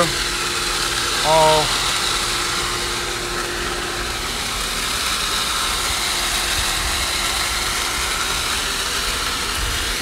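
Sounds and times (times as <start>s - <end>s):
pool pump motor humming: 0.0s - 10.0s.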